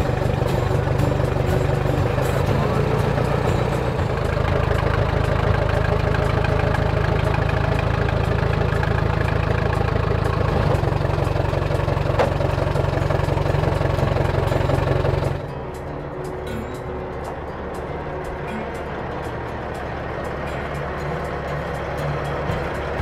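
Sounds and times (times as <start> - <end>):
large engine idling: 0.0 - 23.0.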